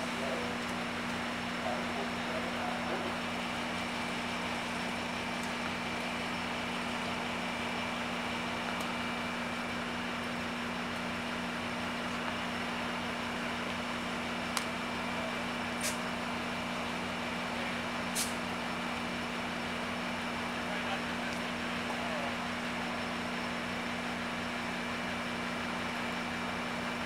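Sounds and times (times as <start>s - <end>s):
diesel locomotive idling: 0.0s - 27.0s
ventilation hum: 0.0s - 27.0s.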